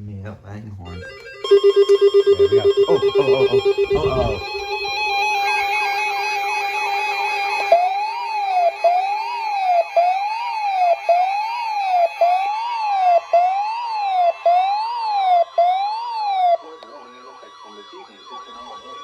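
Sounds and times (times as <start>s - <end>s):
siren-style alert tone: 0.9s - 16.7s.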